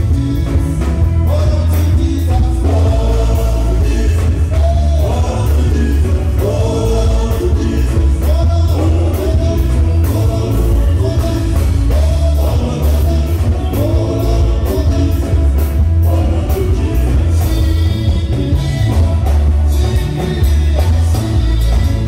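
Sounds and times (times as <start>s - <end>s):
loud music with heavy bass: 0.0s - 22.0s
men singing together: 0.0s - 22.0s.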